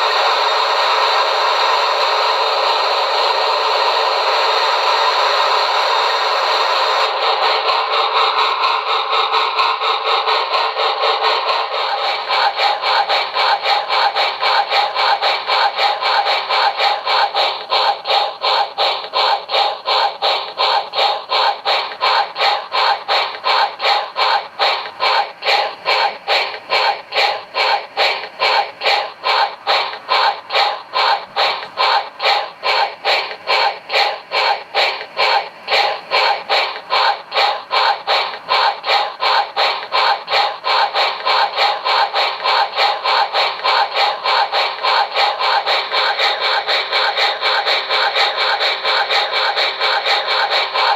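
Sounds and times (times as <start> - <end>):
steam locomotive chuffing: 0.0 - 50.9.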